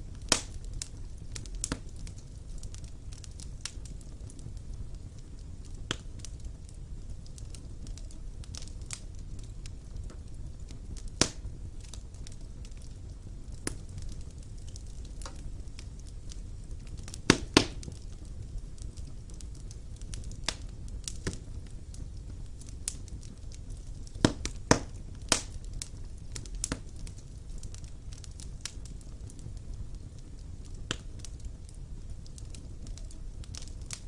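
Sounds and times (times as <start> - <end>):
fire crackling and popping: 0.0 - 34.0
wood fire rumbling: 0.0 - 34.0.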